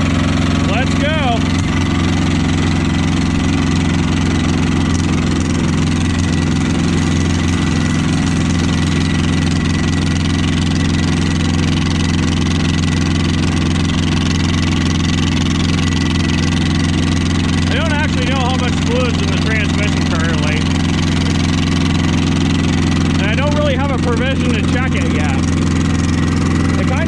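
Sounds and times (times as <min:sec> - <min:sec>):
small diesel engine running: 0:00.0 - 0:27.0.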